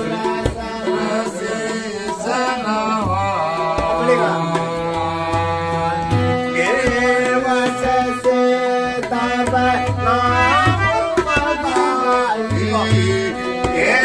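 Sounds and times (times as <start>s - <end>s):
harmonium chords: 0.0s - 14.0s
man singing ornamented melody: 0.0s - 14.0s
tabla strokes: 0.0s - 14.0s.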